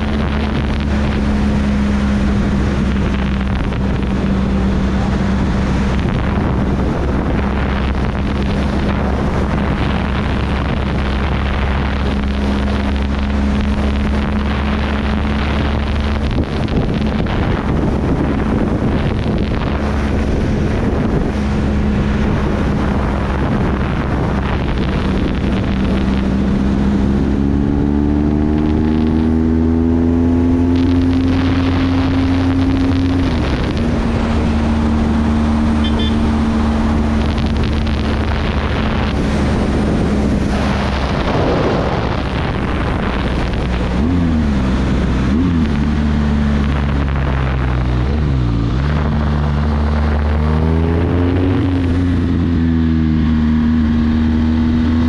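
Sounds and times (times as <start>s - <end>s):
motorcycle engine: 0.0s - 55.0s
wind noise on microphone: 0.0s - 55.0s.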